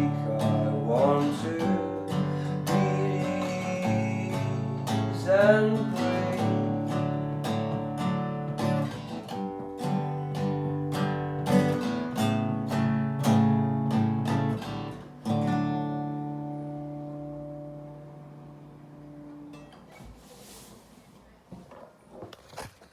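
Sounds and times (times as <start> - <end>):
acoustic guitar strumming: 0.0 - 20.3.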